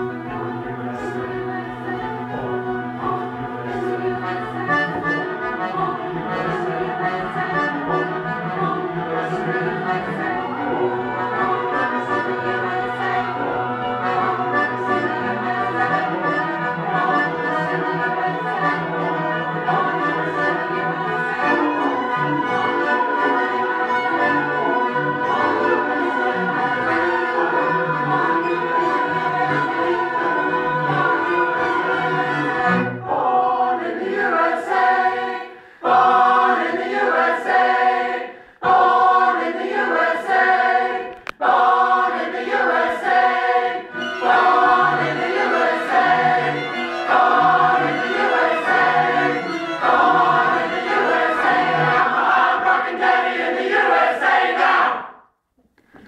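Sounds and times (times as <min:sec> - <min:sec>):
string accompaniment: 0:00.0 - 0:55.1
mixed choir singing: 0:00.0 - 0:55.3.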